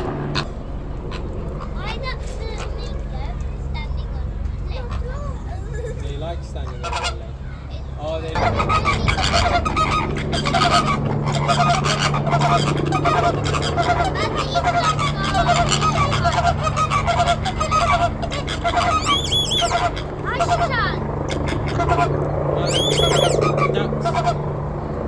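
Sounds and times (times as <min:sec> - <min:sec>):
flamingos honking: 0:00.0 - 0:25.0
low steady drone: 0:00.0 - 0:25.0.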